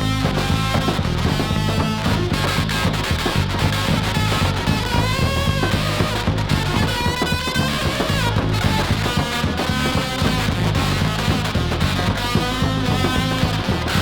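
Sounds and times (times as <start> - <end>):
hard rock music from vinyl: 0.0 - 14.0.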